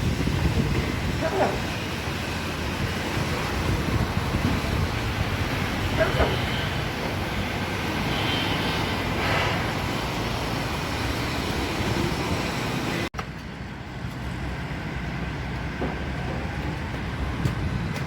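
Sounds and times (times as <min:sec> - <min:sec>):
engines and traffic rumble: 0:00.0 - 0:18.0.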